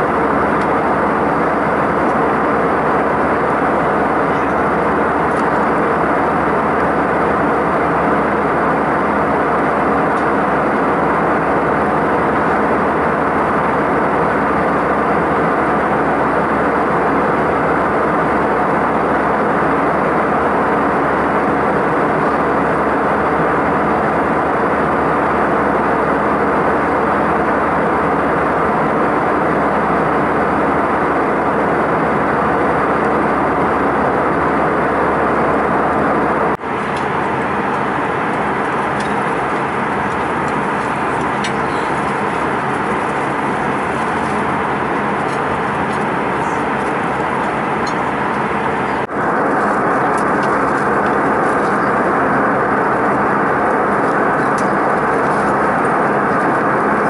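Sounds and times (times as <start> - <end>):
jet airliner cabin noise: 0.0 - 57.0.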